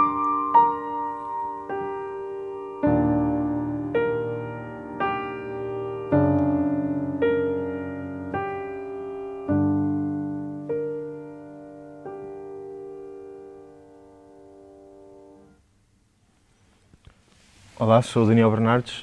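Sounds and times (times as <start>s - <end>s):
solo piano: 0.0s - 15.6s.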